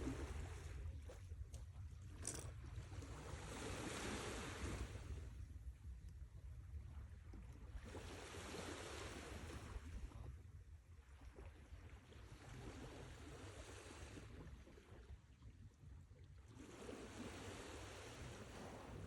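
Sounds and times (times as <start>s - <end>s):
low rumble of the sea: 0.0s - 19.0s.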